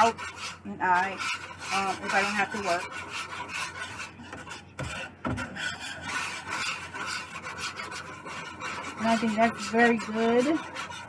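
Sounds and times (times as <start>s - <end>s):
whisk scraping metal bowl: 0.0s - 11.0s.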